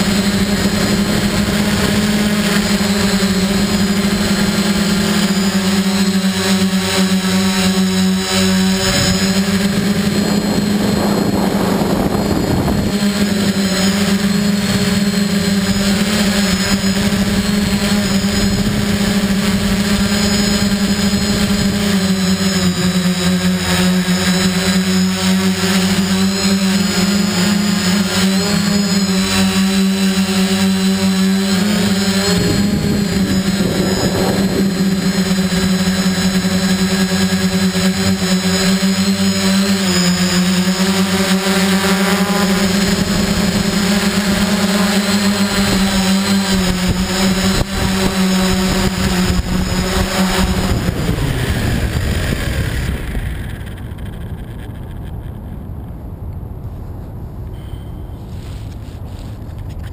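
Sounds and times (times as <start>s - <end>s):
drone motors buzzing: 0.0s - 59.9s.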